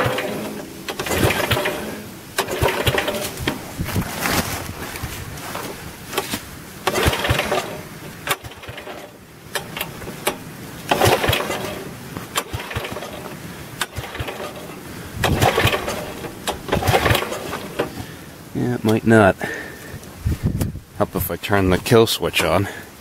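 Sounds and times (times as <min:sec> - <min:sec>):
engine cranking: 0:00.0 - 0:19.1, 0:22.3 - 0:22.9.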